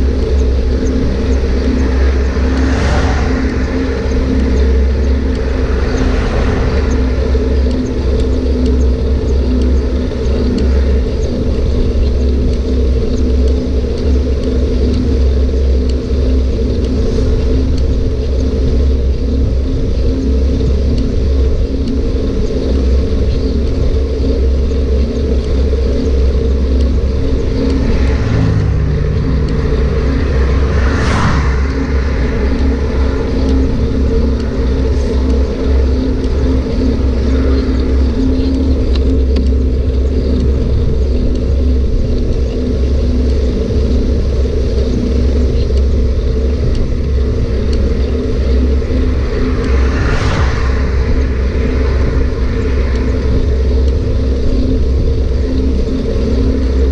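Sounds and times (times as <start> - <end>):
bicycle riding rumble: 0.0 - 56.9
wind buffeting microphone: 0.0 - 56.9.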